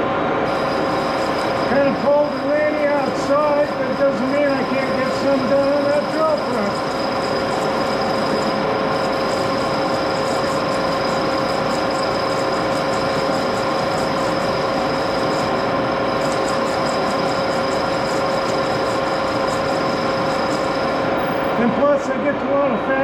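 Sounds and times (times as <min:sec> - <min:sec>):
lathe gear whine: 0:00.0 - 0:22.1
rapid high ticking: 0:00.5 - 0:21.6.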